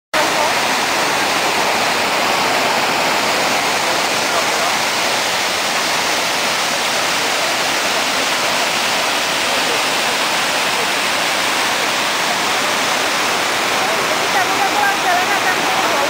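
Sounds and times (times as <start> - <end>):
waterfall rushing: 0.1 - 16.0.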